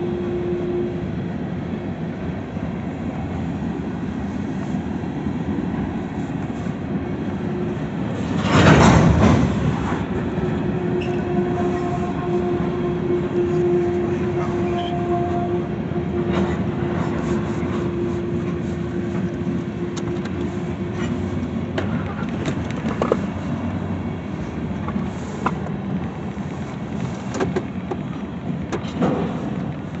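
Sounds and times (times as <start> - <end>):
train wheels rolling on rails: 0.0 - 30.0.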